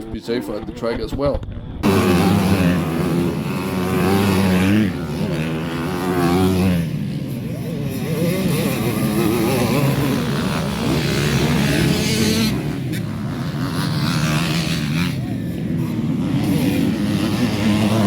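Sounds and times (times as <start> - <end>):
motocross bike engine revving: 1.8 - 18.0.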